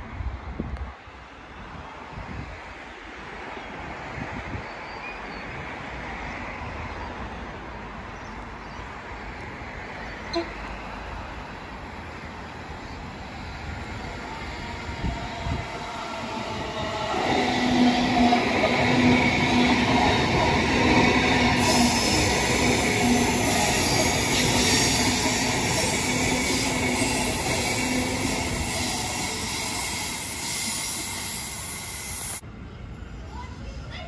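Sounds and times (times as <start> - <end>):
faint outdoor background: 0.0 - 34.0
electric train hum: 5.6 - 33.5
train wheels rumbling on track: 5.7 - 34.0.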